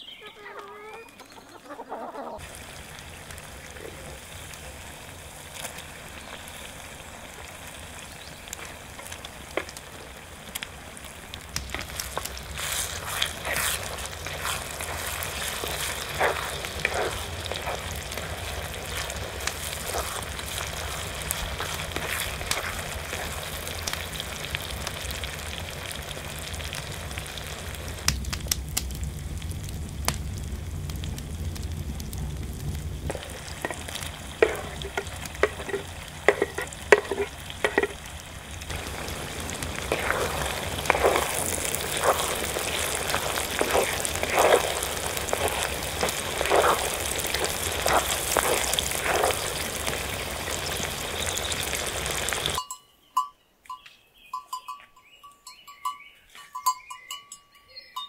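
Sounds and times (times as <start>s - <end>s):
food sizzling in fat: 0.0s - 52.6s
crackles and pops: 0.5s - 52.6s.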